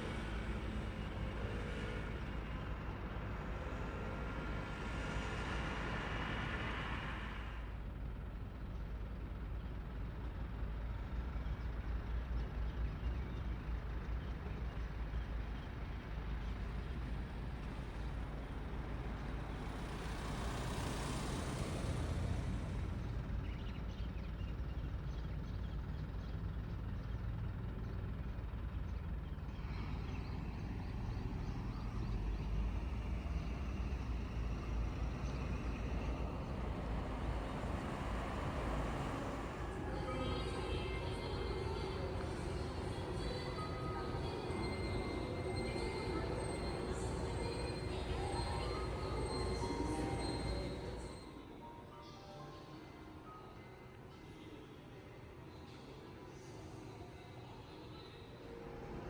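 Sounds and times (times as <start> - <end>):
diesel engines rumbling: 0.0 - 52.0.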